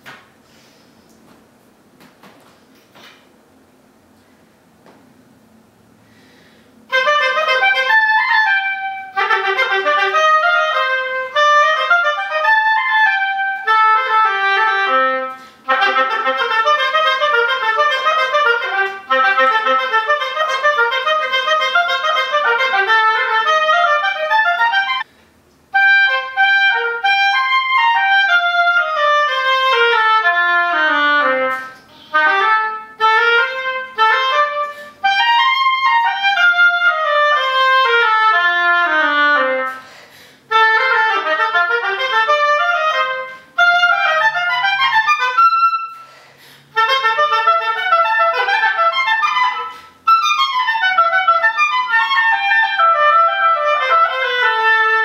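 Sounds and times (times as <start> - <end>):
solo oboe playing fast runs: 6.8 - 55.0.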